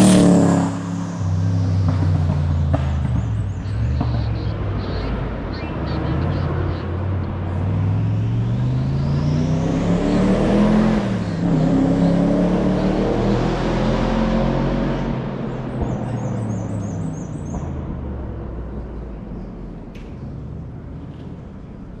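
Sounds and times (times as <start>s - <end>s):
race car engine revving: 0.0s - 19.8s.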